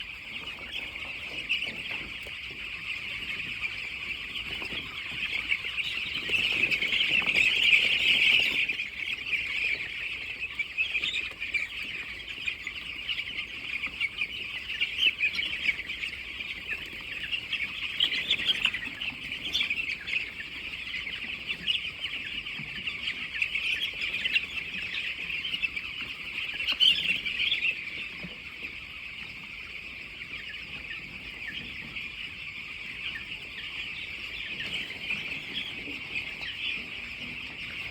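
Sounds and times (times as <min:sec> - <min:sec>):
chicks peeping: 0:00.0 - 0:37.9.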